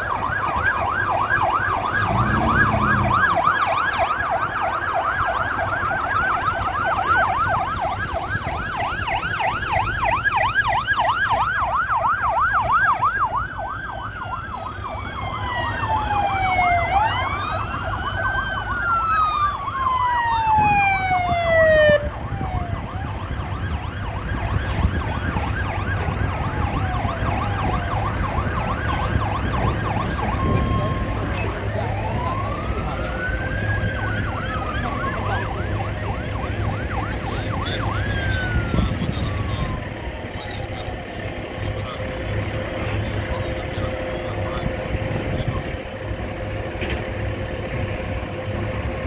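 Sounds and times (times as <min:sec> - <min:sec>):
emergency vehicle sirens: 0:00.0 - 0:49.0.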